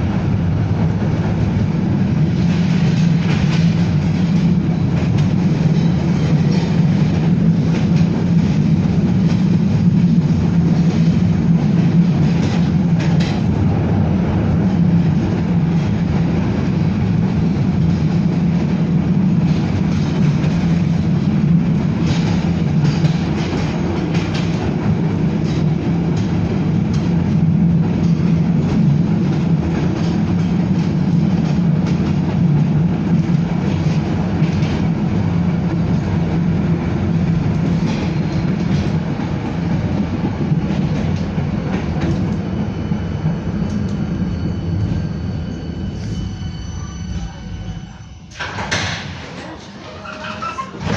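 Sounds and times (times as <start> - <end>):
tram wheels rumbling on rails: 0.0 - 50.9
rail joint clicks: 1.2 - 50.9.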